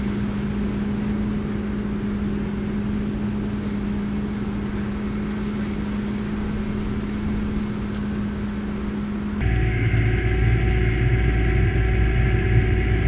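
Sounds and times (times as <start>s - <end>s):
tractor diesel engine under load: 0.0s - 11.3s.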